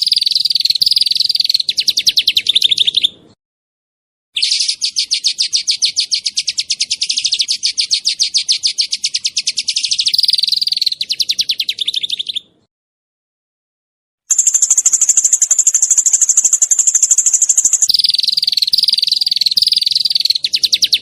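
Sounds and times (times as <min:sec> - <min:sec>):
songbird singing rapid trill: 0:00.0 - 0:03.4, 0:04.4 - 0:12.6, 0:14.3 - 0:21.0.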